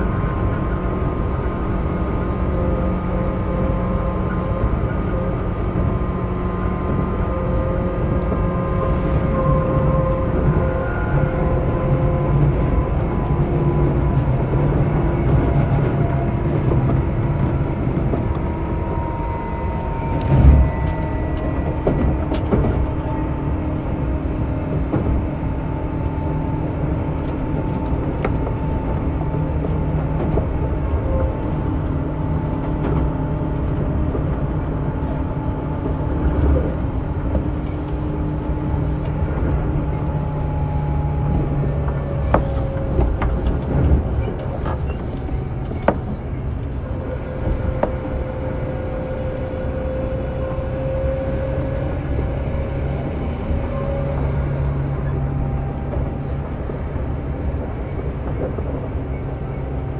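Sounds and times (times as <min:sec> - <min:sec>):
train motor tones gliding lower: 0:00.0 - 0:59.9
train wheel and rail rumble: 0:00.0 - 0:59.9.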